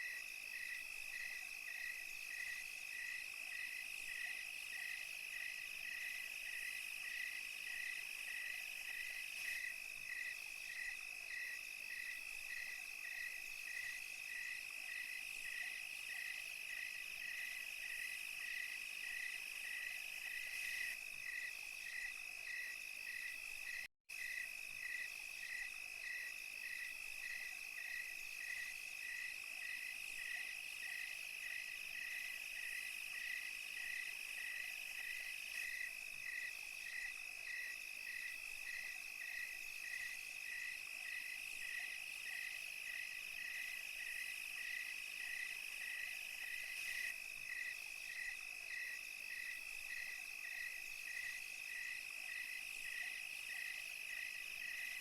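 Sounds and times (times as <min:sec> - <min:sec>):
crickets trilling: 0:00.0 - 0:55.0
insect chirping: 0:00.0 - 0:55.0.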